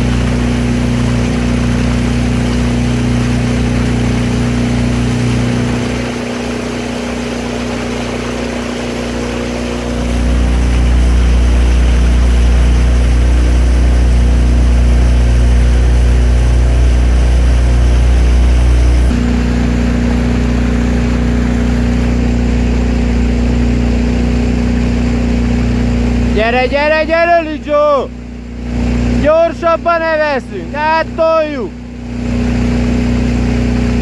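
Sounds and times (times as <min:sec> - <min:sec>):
motorboat engine running: 0:00.0 - 0:34.0.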